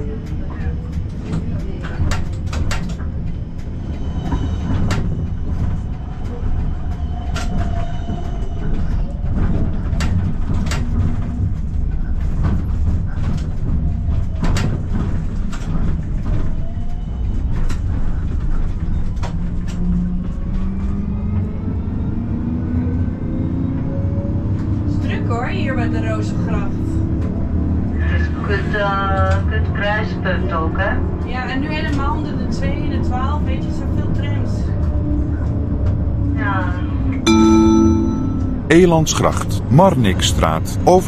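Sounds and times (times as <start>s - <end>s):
tram rumble: 0.0s - 41.0s.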